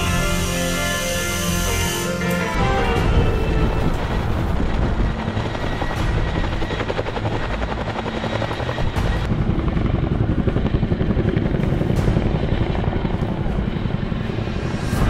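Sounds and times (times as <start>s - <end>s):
helicopter rotor blades beating: 0.0s - 15.0s.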